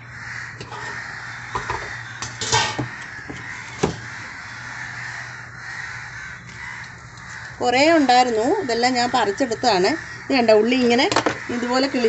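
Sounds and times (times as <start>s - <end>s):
chatter of many birds: 0.0s - 12.0s
crows cawing: 0.0s - 12.0s.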